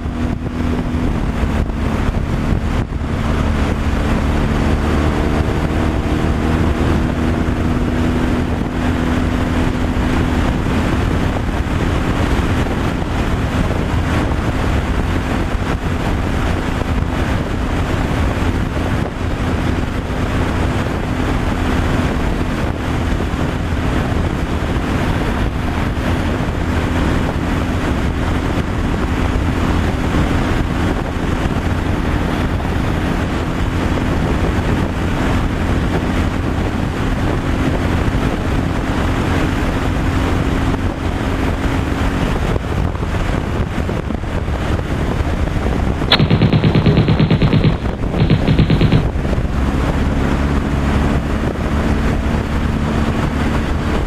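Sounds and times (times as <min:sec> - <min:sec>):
truck engine drone: 0:00.0 - 0:38.2, 0:45.0 - 0:54.0
tyre and wind noise: 0:00.0 - 0:54.0.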